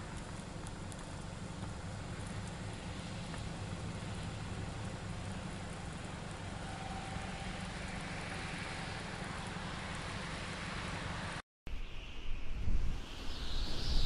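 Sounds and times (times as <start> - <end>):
traffic on wet road: 0.0 - 11.4.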